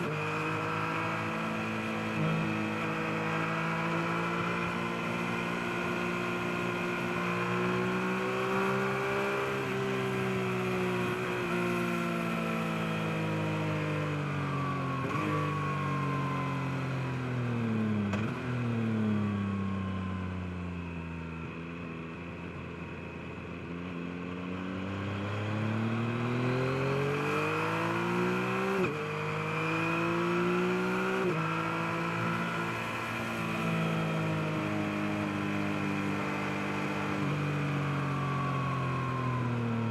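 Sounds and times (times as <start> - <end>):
motorcycle engine: 0.0 - 16.4, 21.4 - 39.9.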